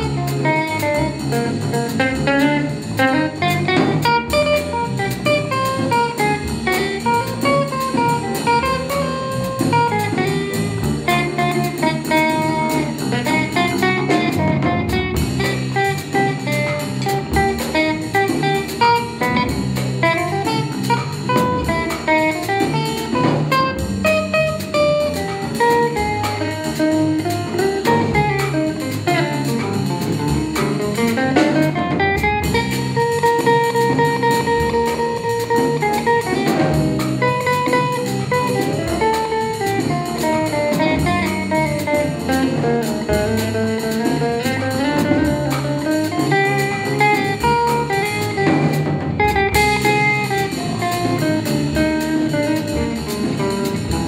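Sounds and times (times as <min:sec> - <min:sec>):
drums with cymbal beat: 0:00.0 - 0:54.0
electric guitar solo: 0:00.0 - 0:54.0.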